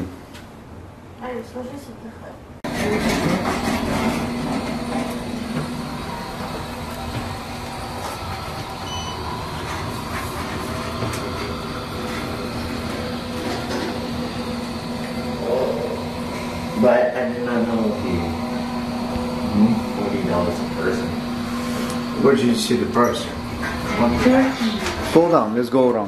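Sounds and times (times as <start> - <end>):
elevator rumbling hum: 2.6 - 25.5
low drone: 2.8 - 25.1.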